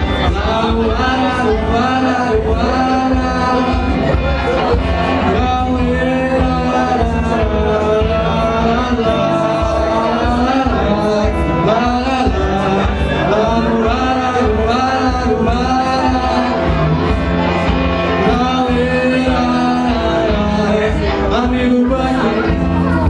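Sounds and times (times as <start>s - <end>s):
live guitar: 0.0s - 23.0s
man singing into microphone: 0.0s - 23.0s
small band playing: 0.0s - 23.0s.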